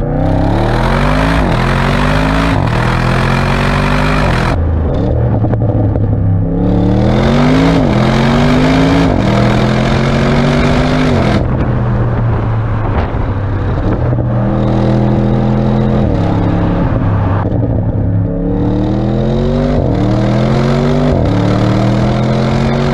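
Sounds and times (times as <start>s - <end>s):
car engine accelerating through gears: 0.0s - 22.9s.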